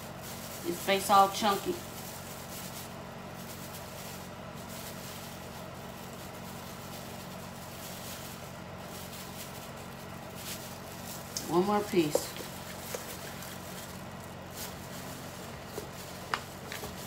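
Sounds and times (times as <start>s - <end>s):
kitchen appliances humming: 0.0s - 17.0s.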